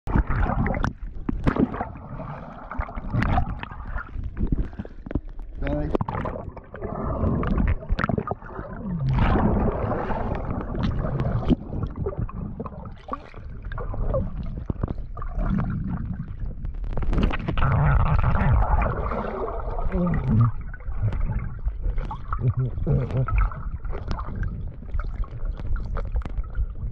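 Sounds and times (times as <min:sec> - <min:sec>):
underwater churning and gurgling: 0:00.1 - 0:26.9.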